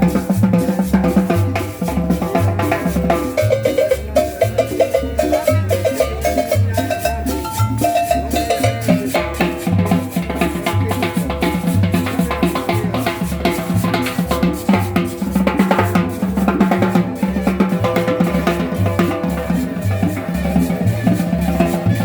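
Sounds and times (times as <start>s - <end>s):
drum kit beat: 0.0s - 22.0s
pulsing bass line: 0.0s - 22.0s.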